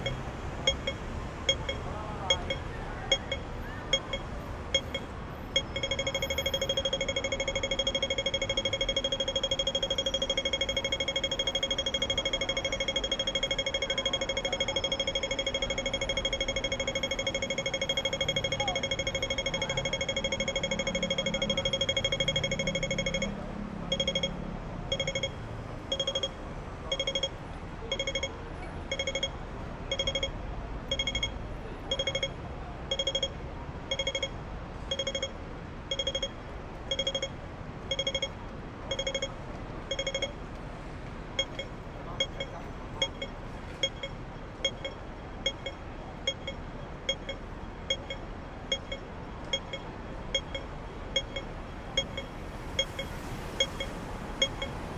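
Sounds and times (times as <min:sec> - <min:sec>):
pedestrian crossing signal beeping: 0:00.0 - 0:54.9.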